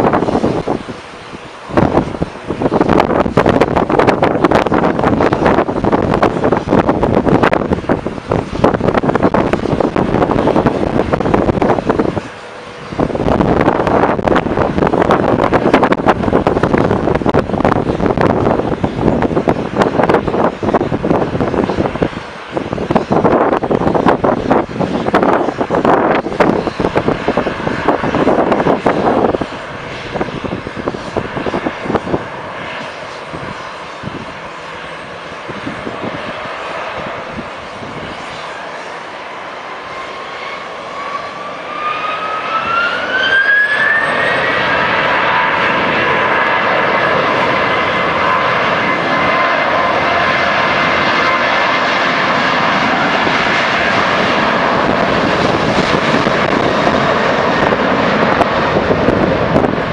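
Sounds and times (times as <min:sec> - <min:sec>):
jet engines spooling up: 0:00.0 - 0:59.9
wind buffeting microphone: 0:00.0 - 0:59.9.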